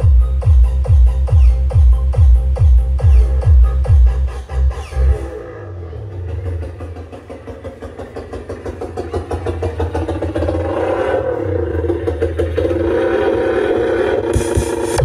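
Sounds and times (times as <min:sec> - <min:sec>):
subwoofer bass rumble: 0:00.0 - 0:15.0.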